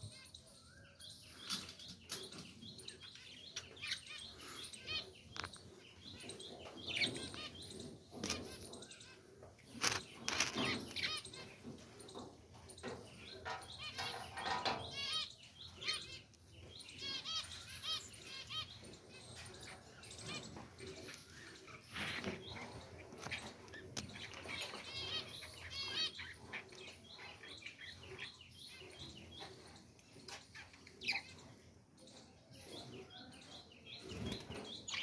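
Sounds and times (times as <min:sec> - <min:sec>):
budgerigars chirping and chattering: 0:00.0 - 0:35.0.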